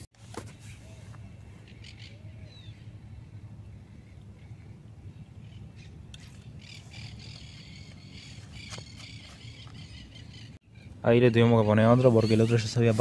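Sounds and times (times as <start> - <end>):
birds squawking and chattering: 0.6 - 13.0.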